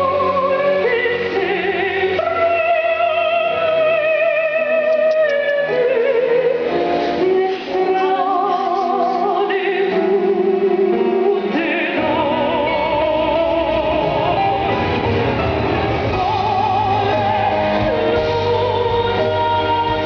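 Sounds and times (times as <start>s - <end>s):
choir singing with vibrato: 0.0s - 20.0s
instrumental accompaniment: 0.0s - 20.0s.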